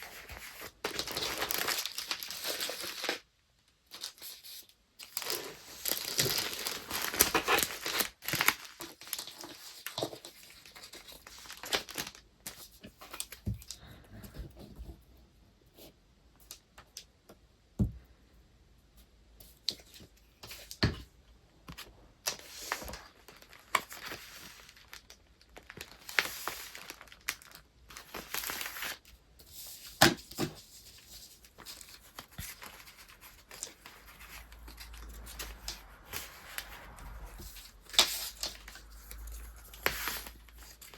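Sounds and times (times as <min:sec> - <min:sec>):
paper rustling and crinkling: 0:00.0 - 0:15.0, 0:21.7 - 0:40.9.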